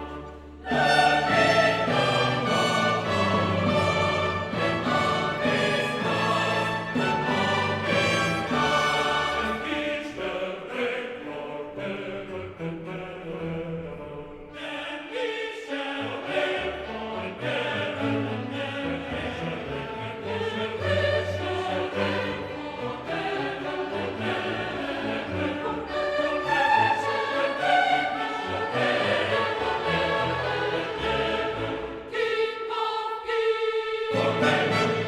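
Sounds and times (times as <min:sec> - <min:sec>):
choir with orchestral music: 0:00.0 - 0:35.0.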